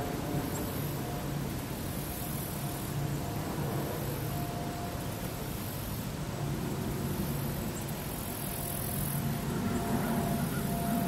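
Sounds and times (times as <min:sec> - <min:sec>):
outdoor rumble and hiss: 0:00.0 - 0:11.0.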